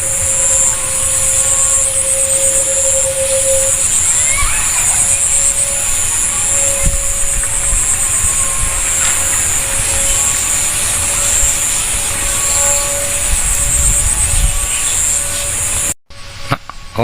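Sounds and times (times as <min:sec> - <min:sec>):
wind buffeting microphone: 0:00.0 - 0:16.0
distant droning hum: 0:00.0 - 0:17.0
high fast-pulsing shrill: 0:00.0 - 0:17.0.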